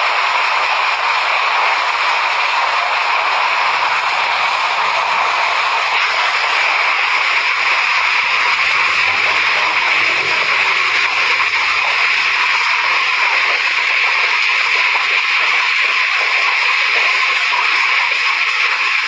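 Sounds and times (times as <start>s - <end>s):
heavy rain: 0.0s - 19.0s
hail falling: 0.6s - 17.8s.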